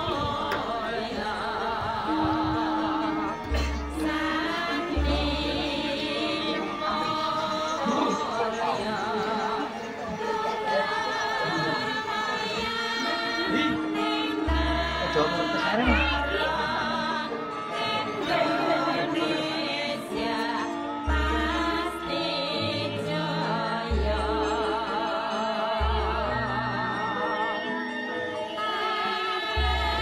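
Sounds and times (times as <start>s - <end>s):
melodic instruments: 0.0s - 30.0s
person singing with vibrato: 0.0s - 30.0s.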